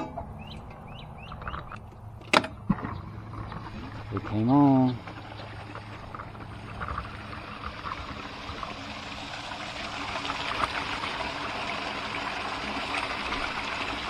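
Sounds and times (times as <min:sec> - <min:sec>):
well pump humming: 0:00.0 - 0:14.0
water rushing and spattering: 0:02.6 - 0:14.0.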